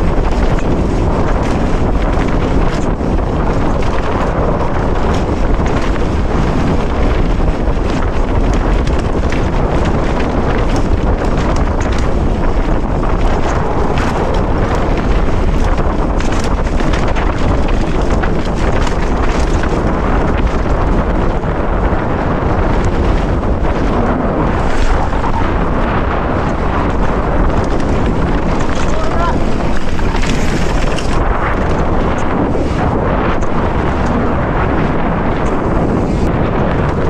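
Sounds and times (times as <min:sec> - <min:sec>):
bike clicks and rattles: 0:00.0 - 0:37.0
tyres rolling over dirt and stones: 0:00.0 - 0:37.0
wind over microphone: 0:00.0 - 0:37.0.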